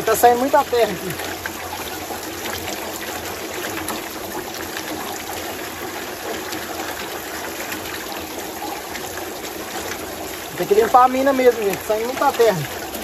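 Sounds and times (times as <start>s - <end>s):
water running from a pump: 0.0s - 13.0s.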